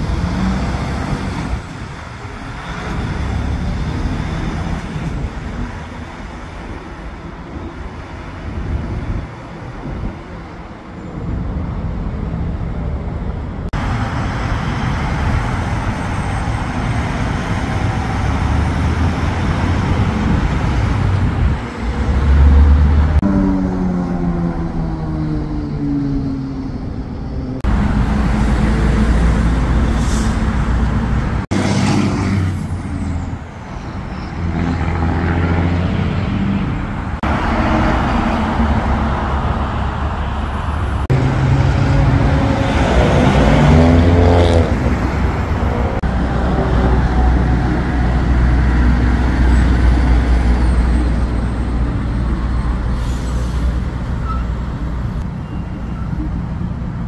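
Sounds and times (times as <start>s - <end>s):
trucks and cars driving past: 0.0s - 57.0s.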